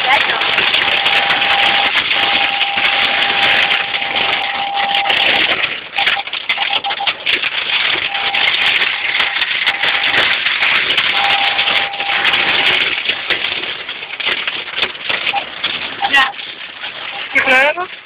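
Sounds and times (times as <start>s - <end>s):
heavy rain on car roof: 0.0s - 18.0s.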